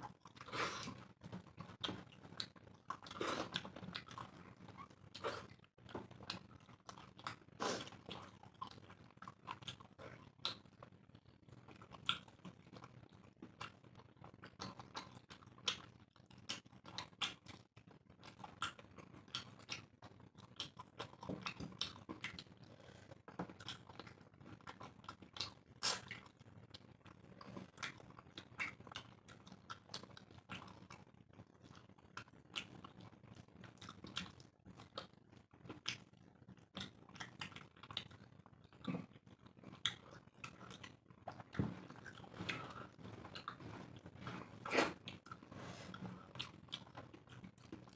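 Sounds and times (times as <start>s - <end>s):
wet chewing and lip smacking: 0.0s - 47.9s.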